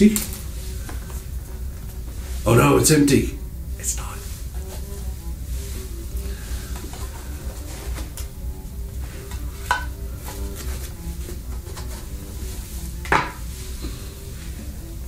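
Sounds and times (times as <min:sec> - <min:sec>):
light background music: 0:00.0 - 0:15.0.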